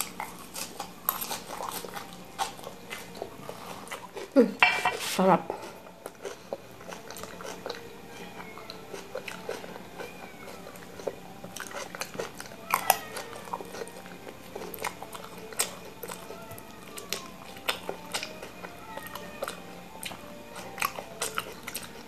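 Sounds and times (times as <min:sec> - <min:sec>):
chewing and mouth noises: 0:00.0 - 0:04.5, 0:05.5 - 0:22.0.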